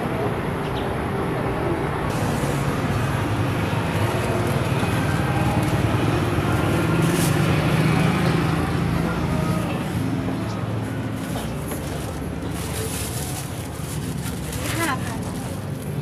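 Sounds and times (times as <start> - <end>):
engine humming: 0.0 - 16.0
vehicle engines rumbling: 0.0 - 16.0.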